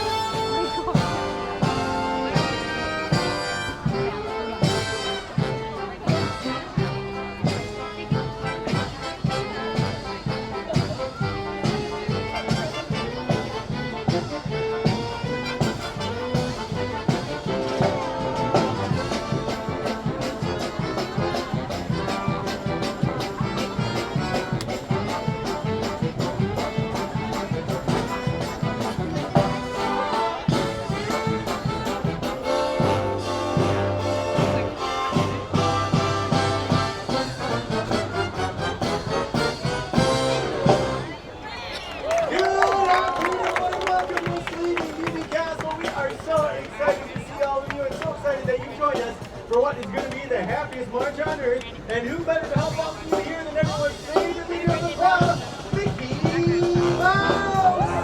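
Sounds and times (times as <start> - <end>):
steady drum beat: 0.0 - 41.1, 44.2 - 58.0
trumpets and trombones: 0.0 - 41.4, 52.4 - 58.0.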